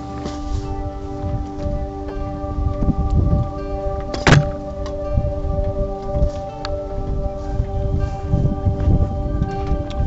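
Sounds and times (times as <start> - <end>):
music of steady held notes: 0.0 - 10.0.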